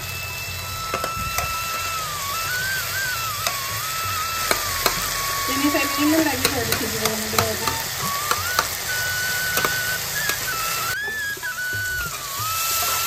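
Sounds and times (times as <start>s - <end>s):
background music melody: 0.0s - 13.0s
food sizzling in a pan: 0.0s - 13.0s.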